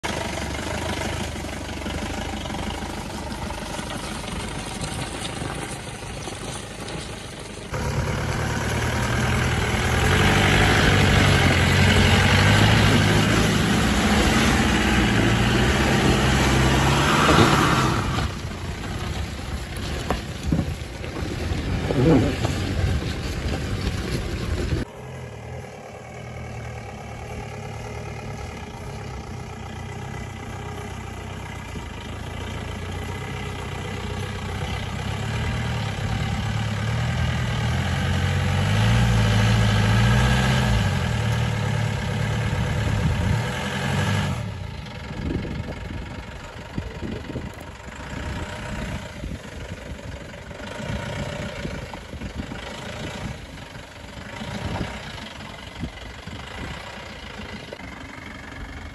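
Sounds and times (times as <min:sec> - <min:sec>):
engine working under load: 0:00.0 - 0:58.9.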